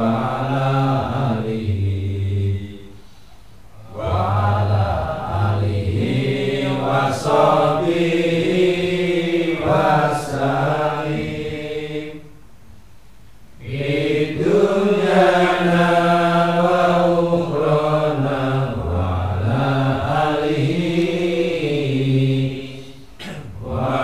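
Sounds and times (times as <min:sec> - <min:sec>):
men chanting together: 0:00.0 - 0:02.9, 0:03.8 - 0:12.3, 0:13.6 - 0:24.0.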